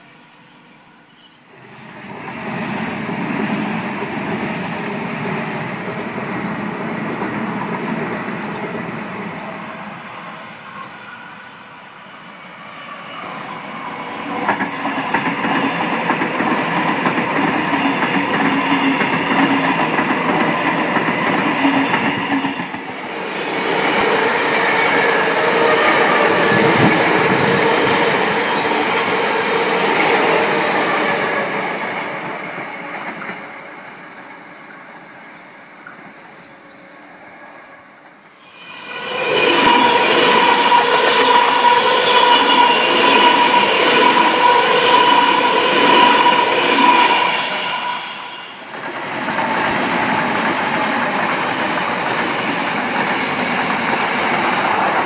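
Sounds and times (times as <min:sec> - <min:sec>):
electric trains passing: 0:00.0 - 0:55.0.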